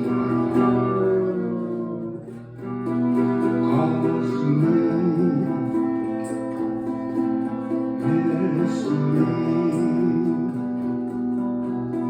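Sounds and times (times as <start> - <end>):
acoustic guitar: 0.0 - 12.0
person singing: 0.0 - 12.0.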